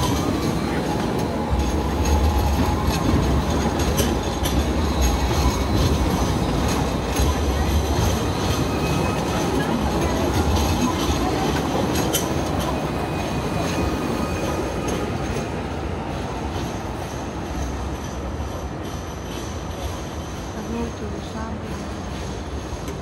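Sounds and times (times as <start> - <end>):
tram rolling past: 0.0 - 23.0.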